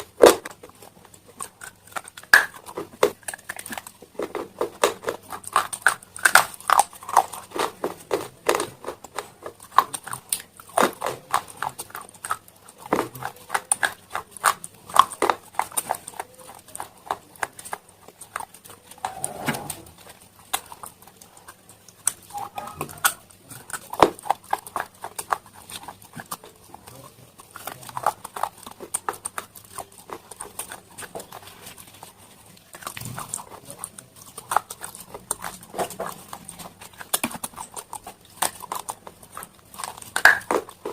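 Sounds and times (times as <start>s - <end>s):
chewing crunchy stone pieces: 0.0s - 40.9s.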